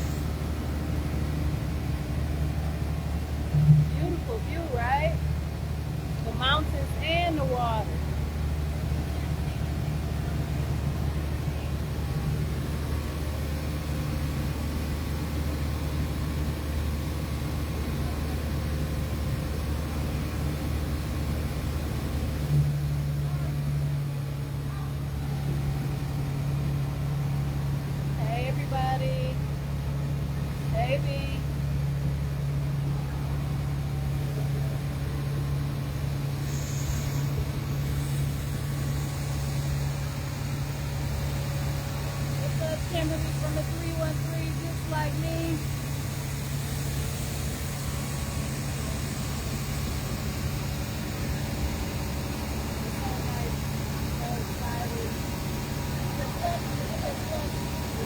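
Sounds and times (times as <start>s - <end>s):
boat engine droning: 0.0s - 58.0s
boat moving through water: 0.0s - 58.0s
wind: 0.0s - 58.0s.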